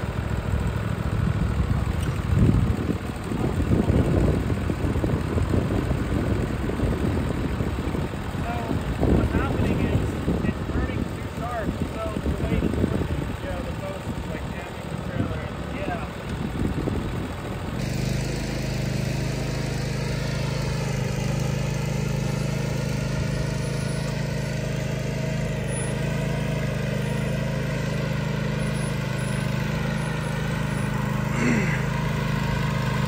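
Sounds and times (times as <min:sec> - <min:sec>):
riding lawn mower engine running: 0:00.0 - 0:33.0.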